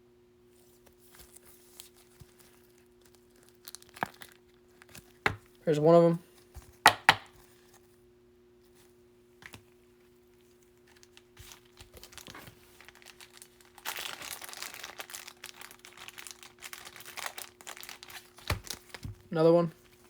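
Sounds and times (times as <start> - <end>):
faint steady hum: 0.0 - 20.0
plastic crinkling and rustling: 0.6 - 5.6, 8.8 - 20.0.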